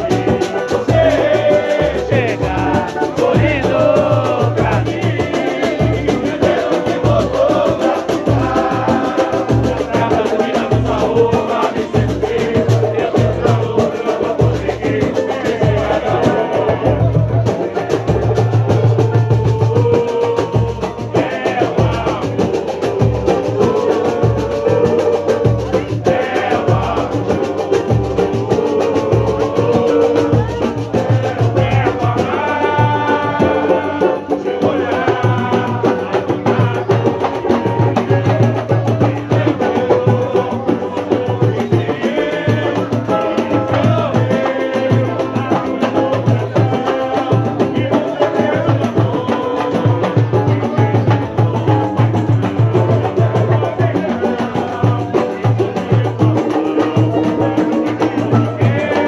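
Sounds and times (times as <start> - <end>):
banjo: 0.0 - 20.0, 21.0 - 59.0
acoustic guitar: 0.0 - 59.0
drum beat: 0.0 - 59.0
pandeiro: 0.0 - 59.0
voices singing along: 0.0 - 59.0.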